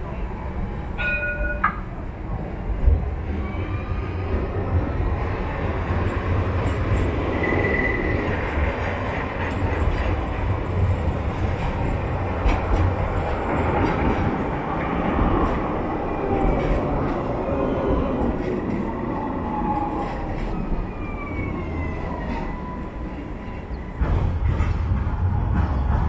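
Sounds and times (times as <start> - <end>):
tram rumbling on rails: 0.0 - 26.0.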